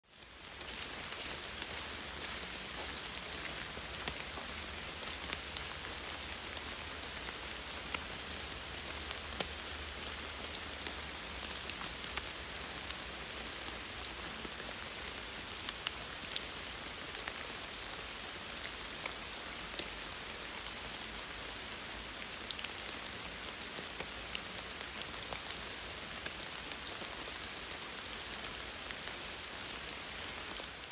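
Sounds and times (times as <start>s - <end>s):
rain falling on foliage: 0.0s - 30.9s
sharp ticks of raindrops: 0.0s - 30.9s.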